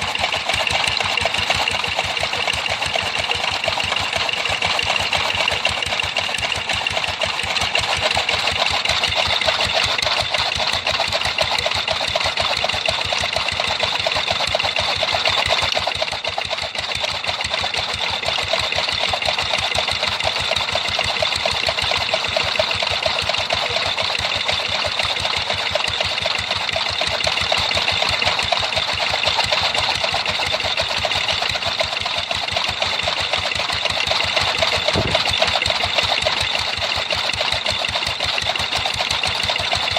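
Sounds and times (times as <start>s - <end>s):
machine running with rapid beat: 0.0s - 39.9s.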